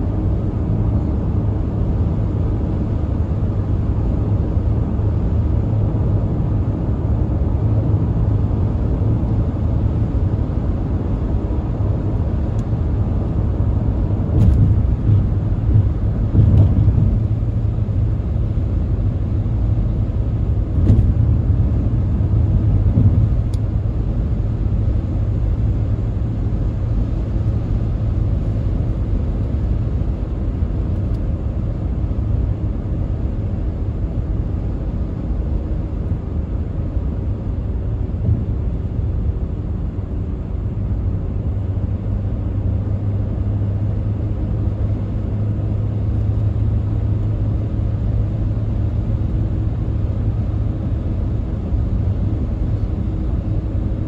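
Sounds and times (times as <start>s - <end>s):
tyre and engine drone: 0.0s - 54.0s.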